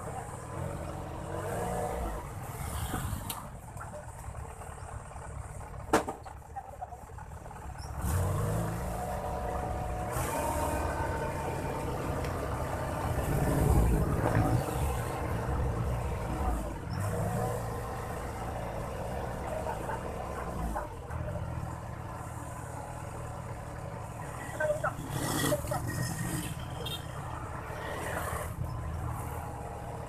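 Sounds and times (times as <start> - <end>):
truck engine running: 0.0 - 27.7.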